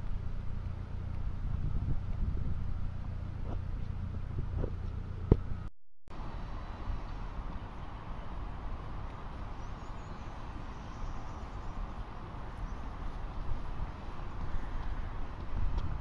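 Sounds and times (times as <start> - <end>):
wind buffeting microphone: 0.0 - 5.6, 6.7 - 16.0.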